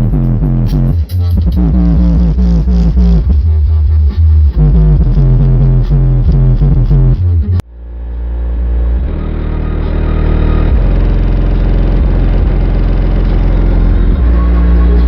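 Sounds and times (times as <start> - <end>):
deep bass music from subwoofers: 0.0 - 15.0.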